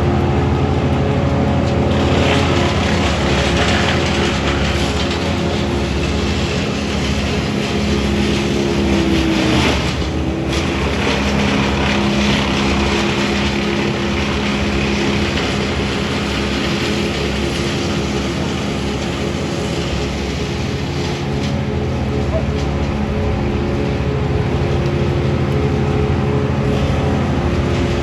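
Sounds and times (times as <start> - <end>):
motor engine humming: 0.0 - 28.0.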